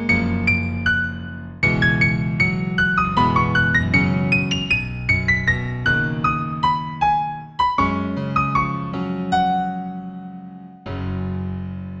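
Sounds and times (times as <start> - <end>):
solo piano music: 0.0 - 12.0.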